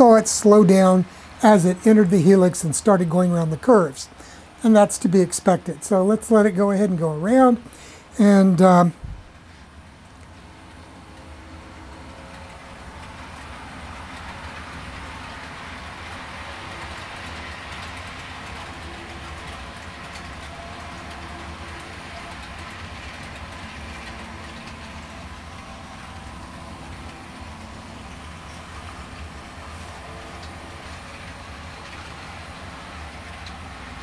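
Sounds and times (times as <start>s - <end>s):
model train wheels on rails: 0.0s - 34.0s.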